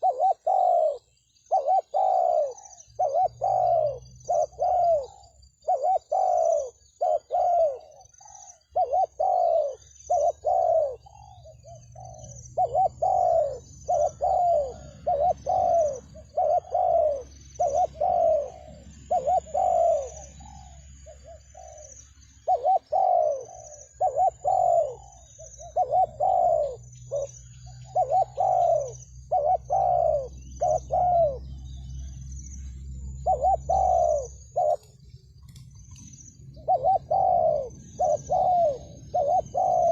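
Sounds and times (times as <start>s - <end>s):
dove cooing: 0.0s - 32.2s, 32.9s - 35.0s, 35.8s - 39.9s.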